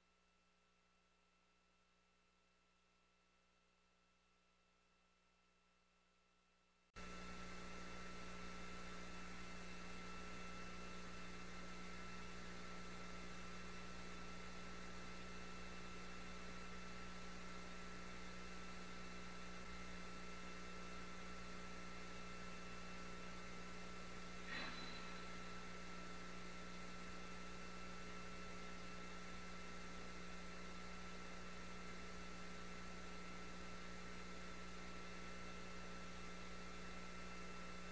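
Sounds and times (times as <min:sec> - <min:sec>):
electronic hum and hiss: 0:00.0 - 0:37.9.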